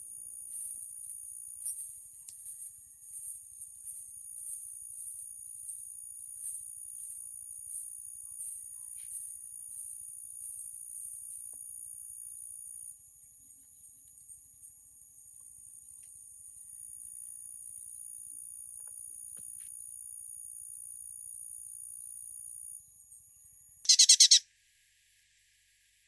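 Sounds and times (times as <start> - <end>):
insects droning chorus: 0.0 - 24.4.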